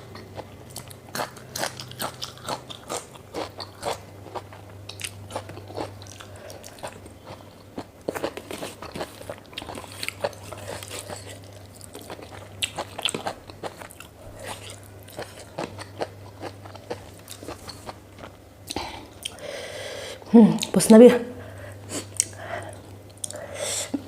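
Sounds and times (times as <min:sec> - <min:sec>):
person chewing food: 0:00.0 - 0:19.4, 0:21.8 - 0:24.0
steady low hum: 0:00.0 - 0:24.0.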